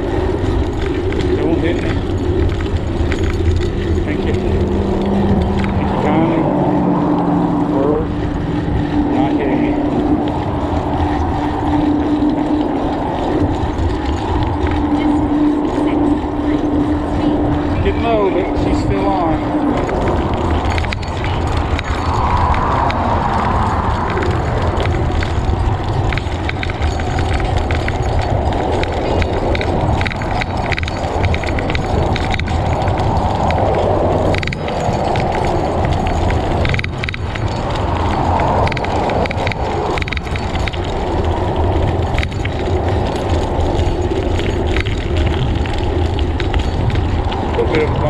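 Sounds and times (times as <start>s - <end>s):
bicycle tyre noise: 0.0s - 48.0s
wind rush on microphone: 0.0s - 48.0s.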